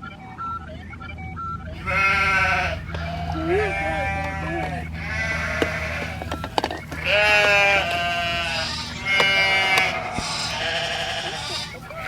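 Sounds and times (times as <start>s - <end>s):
sheep bleating: 1.8s - 12.0s.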